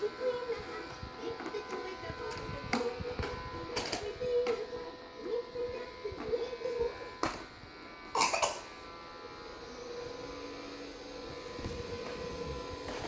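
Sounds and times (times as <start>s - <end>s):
vacuum cleaner motor humming: 0.0s - 13.0s.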